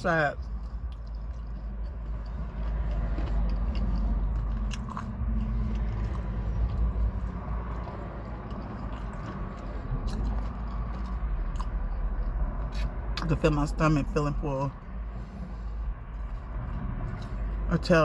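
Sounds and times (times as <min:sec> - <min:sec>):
low steady rumble: 0:00.0 - 0:18.0
person chewing food: 0:00.0 - 0:18.0.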